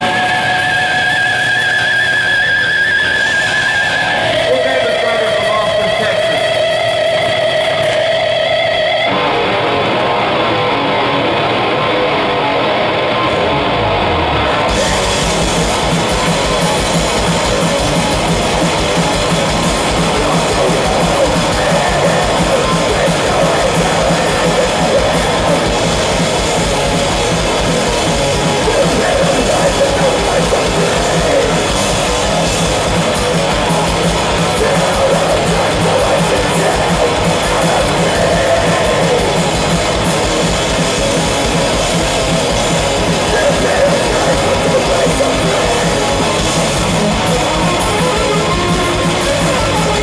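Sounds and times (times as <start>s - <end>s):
distorted electric guitar: 0.0s - 50.0s
heavy metal band playing: 0.0s - 50.0s.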